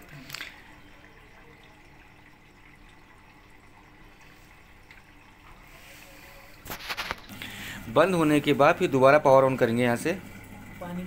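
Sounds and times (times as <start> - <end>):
faint water trickle: 0.0 - 11.0.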